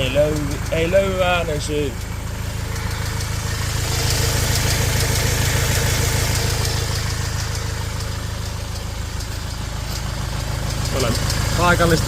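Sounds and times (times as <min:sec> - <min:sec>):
diesel engine idling: 0:00.0 - 0:12.0
fast even engine tapping: 0:00.0 - 0:12.0.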